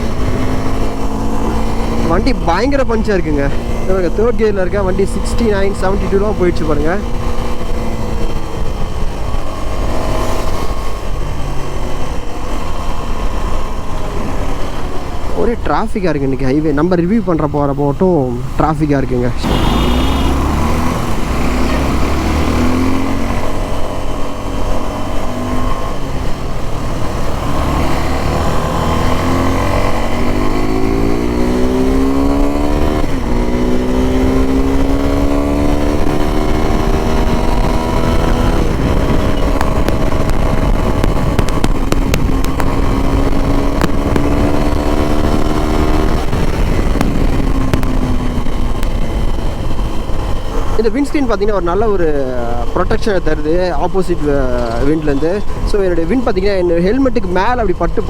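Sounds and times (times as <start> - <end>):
low wind rumble: 0.0 - 58.0
motorcycle engine revving: 0.0 - 58.0.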